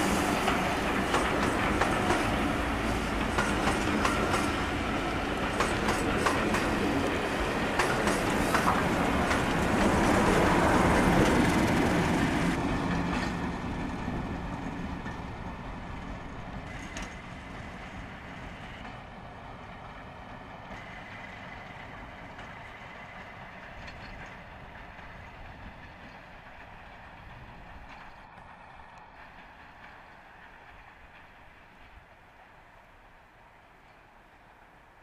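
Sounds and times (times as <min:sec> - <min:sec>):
train carriages rolling on rails: 0:00.0 - 0:35.0.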